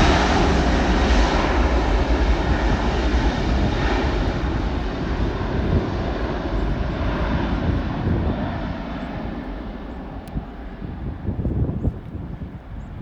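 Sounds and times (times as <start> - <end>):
jet engine low rumble: 0.0 - 13.0.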